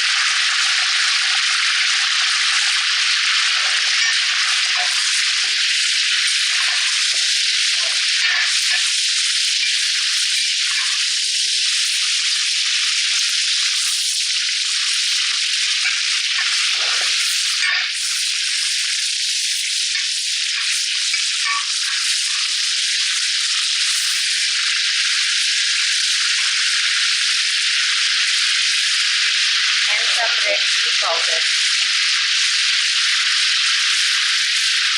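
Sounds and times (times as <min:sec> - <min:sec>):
fruit sizzling in hot oil: 0:00.0 - 0:34.9.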